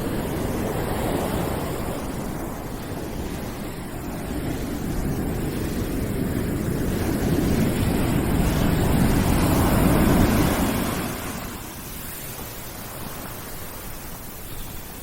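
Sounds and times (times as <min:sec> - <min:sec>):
rushing background noise: 0:00.0 - 0:15.0.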